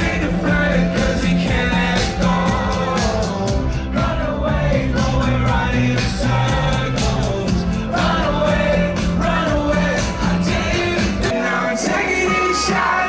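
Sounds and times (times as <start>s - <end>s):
song with singing over a beat: 0.0s - 13.0s.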